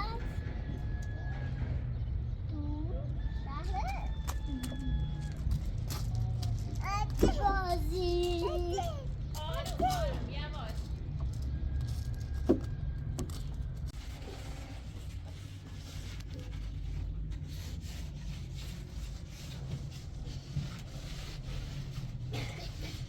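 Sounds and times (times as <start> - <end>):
rubbing and scraping while cleaning: 3.8 - 23.0.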